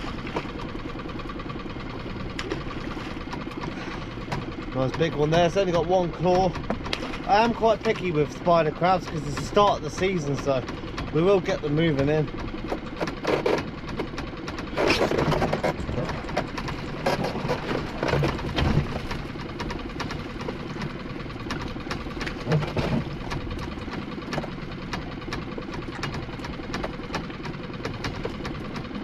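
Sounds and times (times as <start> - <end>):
boat engine ticking: 0.0 - 29.0.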